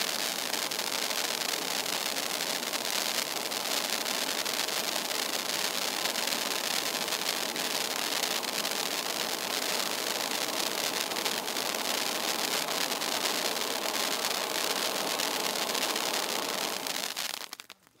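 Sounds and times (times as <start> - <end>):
firework fountain hissing and crackling: 0.0 - 18.0.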